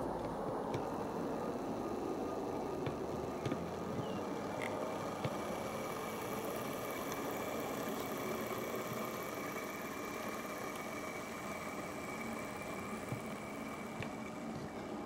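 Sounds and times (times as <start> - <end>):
model locomotive running: 0.0 - 15.0.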